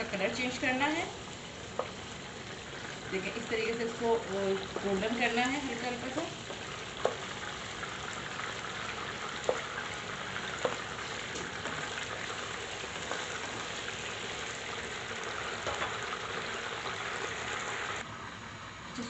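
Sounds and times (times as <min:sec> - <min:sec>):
chicken frying in oil: 0:00.0 - 0:18.0.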